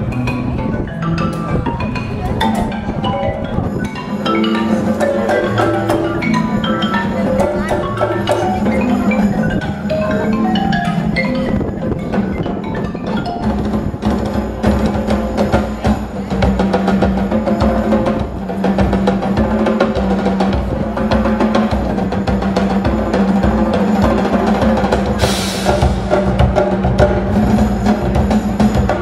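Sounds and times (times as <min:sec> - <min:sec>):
drum strokes: 0:00.0 - 0:29.0
mallet keyboards playing: 0:00.0 - 0:29.0.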